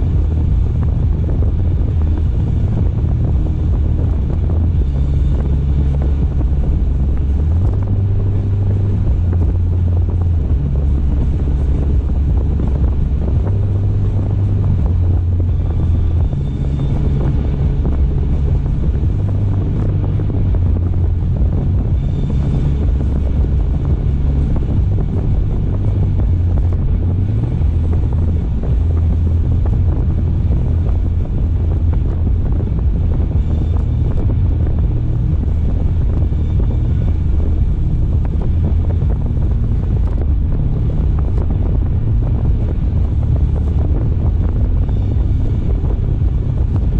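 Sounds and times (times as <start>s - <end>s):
car road and tyre noise: 0.0s - 46.9s
wind noise: 0.0s - 46.9s.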